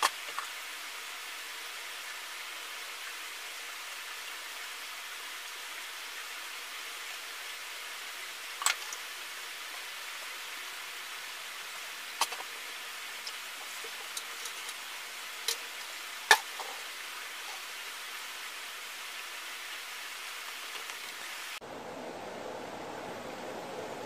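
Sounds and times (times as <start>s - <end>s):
running water hiss: 0.0s - 24.0s.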